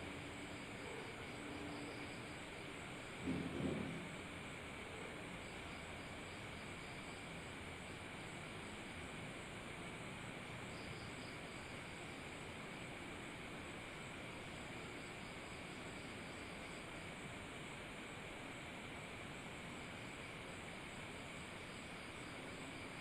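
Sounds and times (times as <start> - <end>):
crickets chirring: 0.0 - 23.0
faint steady hiss: 0.0 - 23.0.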